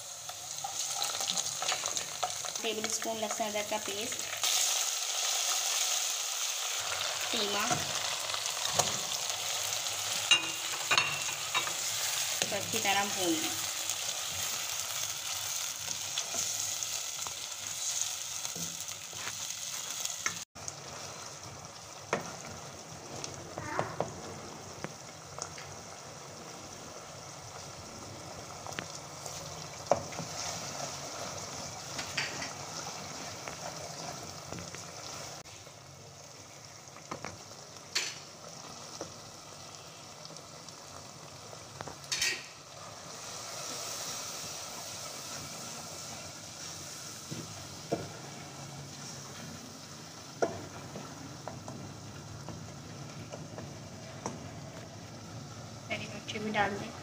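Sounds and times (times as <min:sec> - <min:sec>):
meat and onions sizzling: 0:00.0 - 0:57.0.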